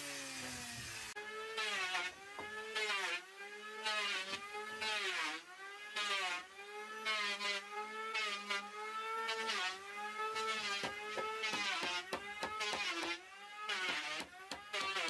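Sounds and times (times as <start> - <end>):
power tool motor whirring: 0.0 - 15.0.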